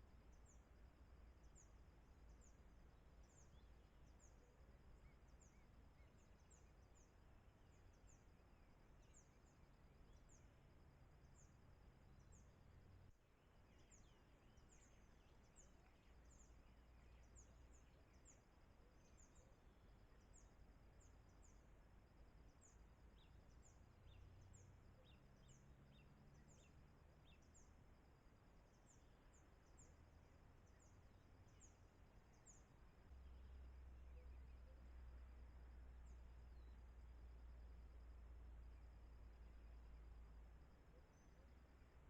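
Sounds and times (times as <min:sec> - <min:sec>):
small birds chirping: 0:00.1 - 0:42.0.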